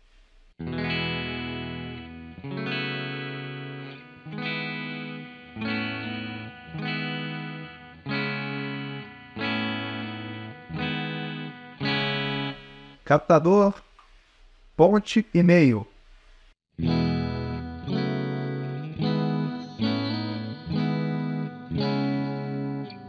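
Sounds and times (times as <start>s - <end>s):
clean electric guitar chords strummed: 0.6s - 13.0s, 16.8s - 23.0s.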